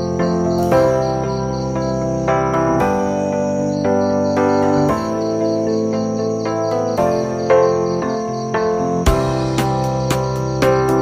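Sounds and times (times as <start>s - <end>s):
instrumental music with chords: 0.0s - 11.0s.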